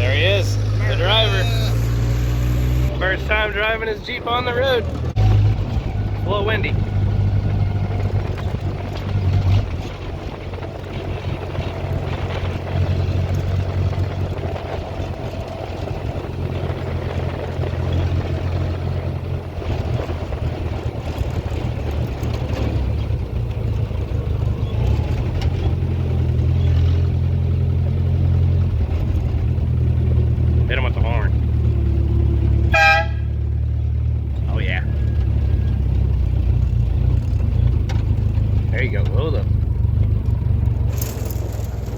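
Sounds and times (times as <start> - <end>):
car engine driving: 0.0 - 41.9.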